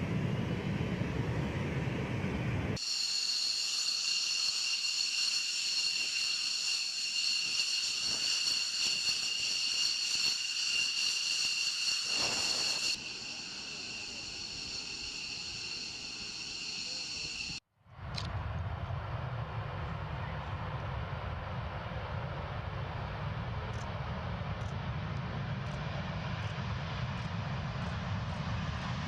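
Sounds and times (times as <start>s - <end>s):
jet engine whine: 0.0s - 29.0s.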